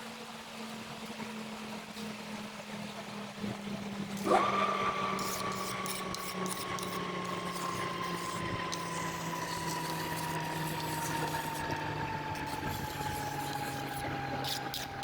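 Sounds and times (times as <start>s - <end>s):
lathe motor whine: 0.1s - 15.0s.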